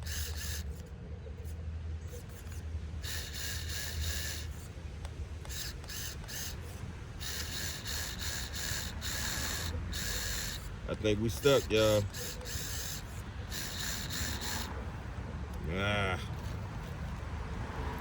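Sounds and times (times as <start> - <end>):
small electric motor whining: 0.0 - 18.0.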